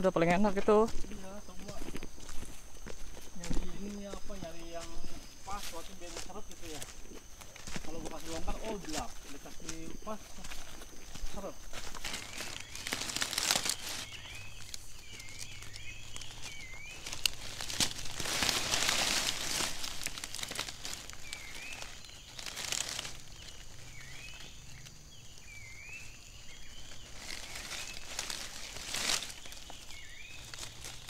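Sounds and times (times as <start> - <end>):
dry leaves rustling and crackling: 0.7 - 31.0.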